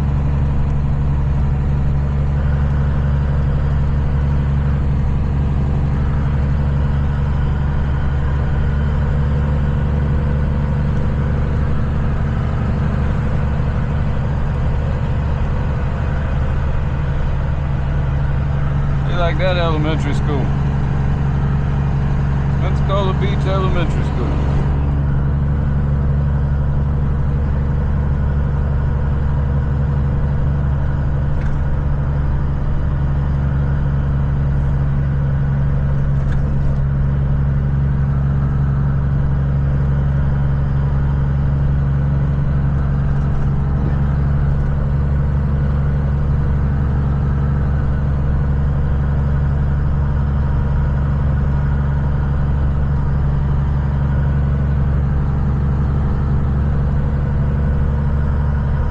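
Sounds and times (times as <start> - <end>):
road noise inside cab: 0.0 - 58.9
vehicle engine drone: 0.0 - 58.9.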